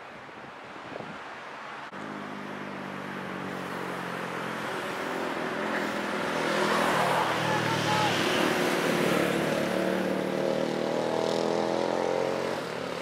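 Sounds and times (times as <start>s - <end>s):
car engines humming: 1.9s - 13.0s.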